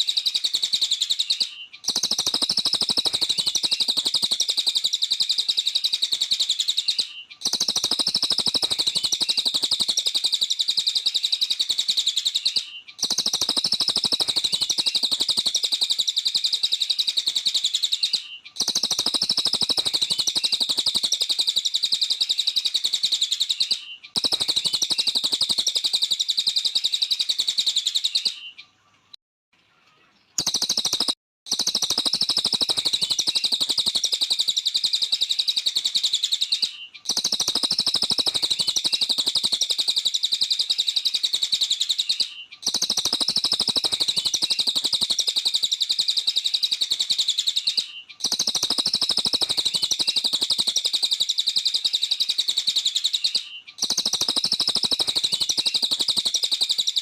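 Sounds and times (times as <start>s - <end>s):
songbird rapid high chirping: 0.0s - 29.2s, 29.9s - 57.0s.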